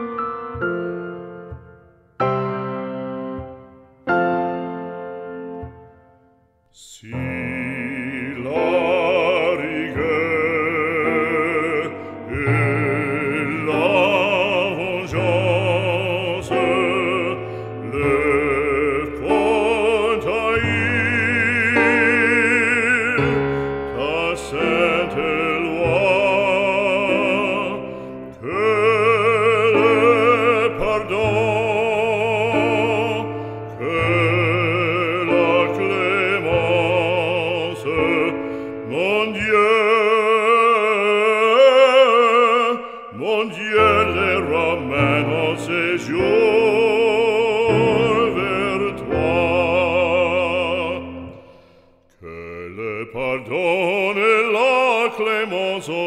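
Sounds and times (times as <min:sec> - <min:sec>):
classical solo voice singing: 0:00.0 - 0:56.0.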